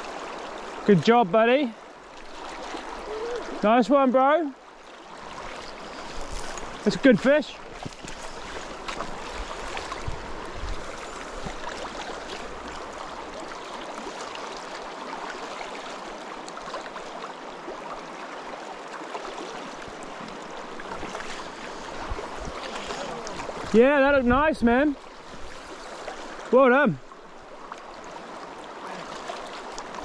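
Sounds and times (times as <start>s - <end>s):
river flowing over gravel: 0.0s - 30.0s.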